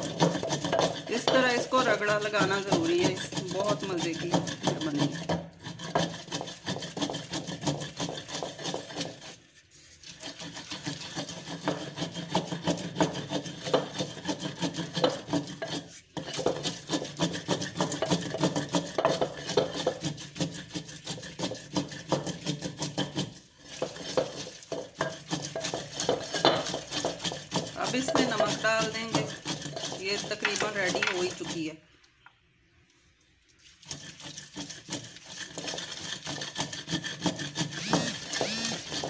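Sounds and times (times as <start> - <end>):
pestle grinding in mortar: 0.0 - 31.8, 33.7 - 39.0.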